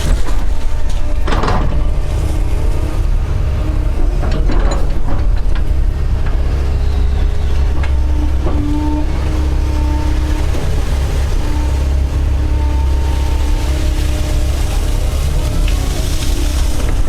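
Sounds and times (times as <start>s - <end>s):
excavator diesel engine running: 0.0s - 17.0s
hydraulic whine: 0.0s - 17.0s.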